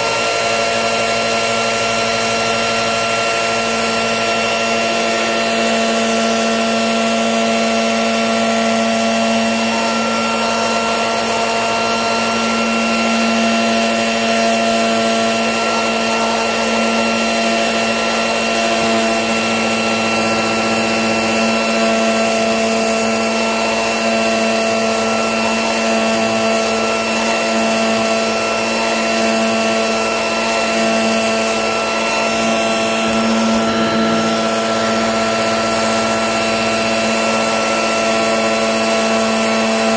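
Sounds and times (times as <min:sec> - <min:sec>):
machine running with whine: 0:00.0 - 0:39.9.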